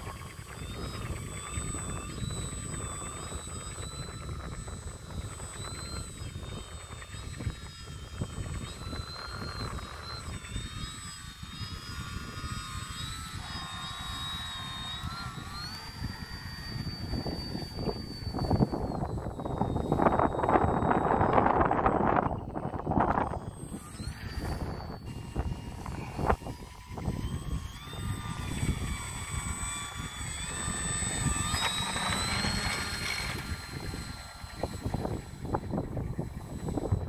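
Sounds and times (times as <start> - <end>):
model aircraft motor whine: 0.0 - 37.0
wind on microphone: 0.0 - 37.0.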